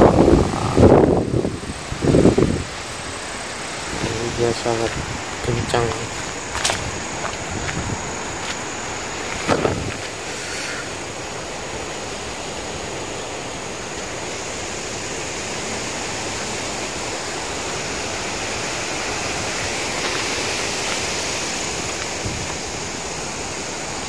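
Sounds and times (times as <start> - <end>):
strong gusting wind: 0.0 - 24.0.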